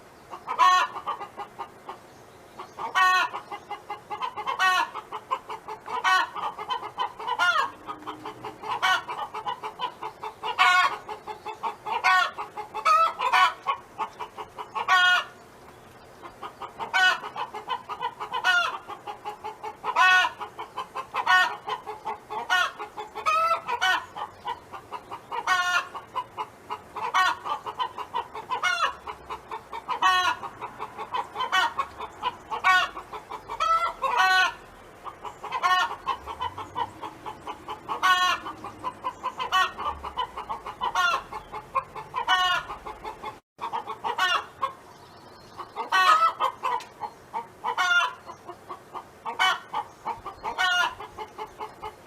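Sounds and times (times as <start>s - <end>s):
hen clucking: 0.0s - 52.0s
loud hen call: 0.5s - 1.4s, 2.8s - 13.9s, 14.7s - 15.4s, 16.8s - 24.3s, 24.9s - 34.6s, 35.4s - 44.8s, 45.8s - 48.3s, 49.2s - 52.0s.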